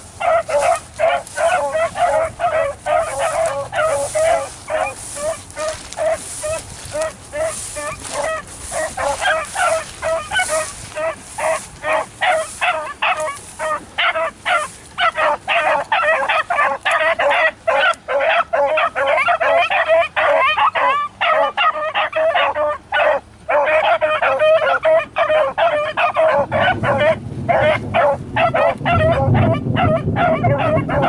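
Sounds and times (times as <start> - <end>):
beagles baying: 0.0 - 31.0.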